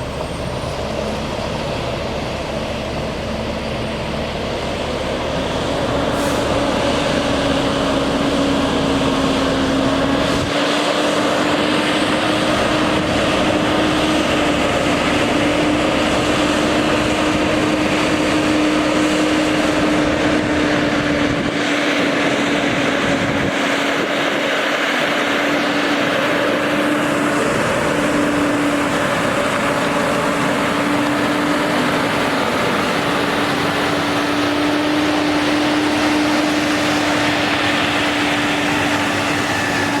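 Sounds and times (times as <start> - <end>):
broad rushing noise: 0.0 - 40.0
truck diesel engine running: 0.0 - 40.0.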